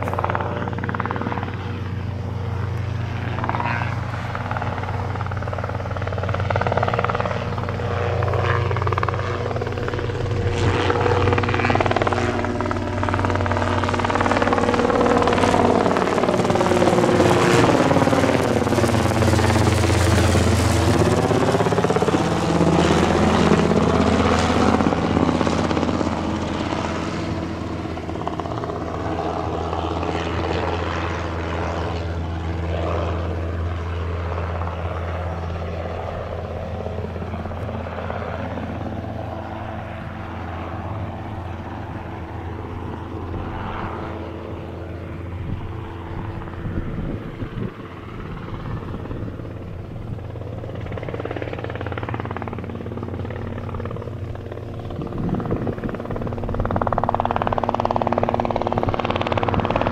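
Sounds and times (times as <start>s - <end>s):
helicopter flying past: 0.0s - 59.9s.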